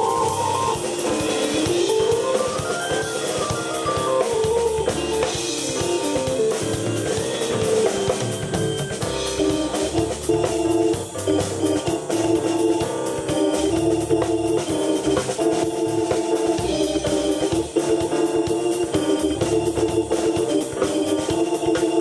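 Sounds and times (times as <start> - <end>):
drum beat: 0.0 - 22.0
keyboard playing quick runs: 0.0 - 22.0.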